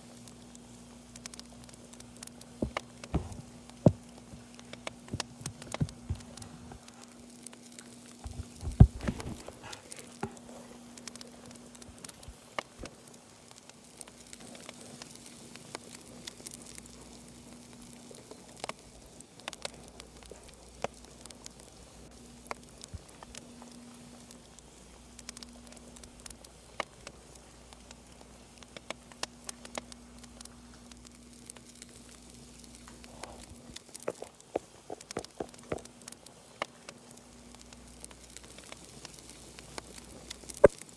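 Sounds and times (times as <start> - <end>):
faint steady hum: 0.0 - 40.9
fireplace crackles and pops: 0.0 - 40.9.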